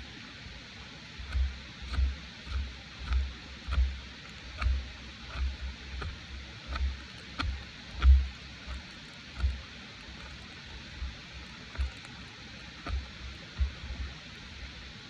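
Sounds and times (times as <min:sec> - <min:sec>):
dull thuds and light taps: 0:01.2 - 0:14.2.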